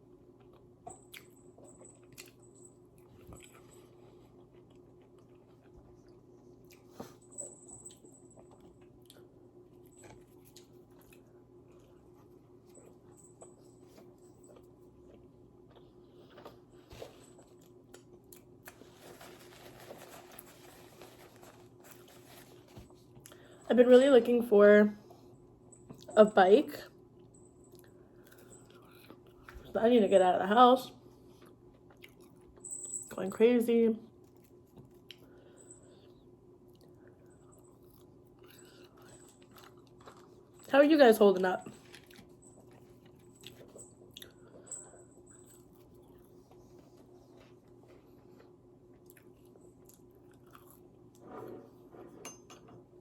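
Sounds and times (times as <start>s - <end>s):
low electrical hum: 0.0s - 53.0s
soft chewing: 0.2s - 23.6s, 27.0s - 29.8s, 31.0s - 32.6s, 34.1s - 40.7s, 41.6s - 51.3s.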